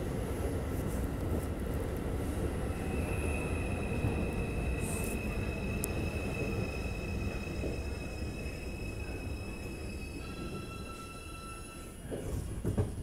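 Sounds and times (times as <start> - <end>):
high train whine: 0.0 - 13.0
subway train rumble: 0.0 - 13.0.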